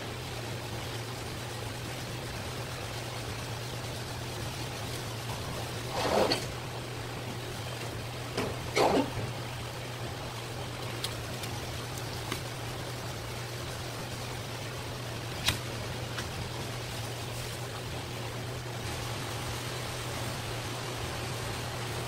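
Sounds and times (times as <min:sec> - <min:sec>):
steady hiss and low hum: 0:00.0 - 0:22.0.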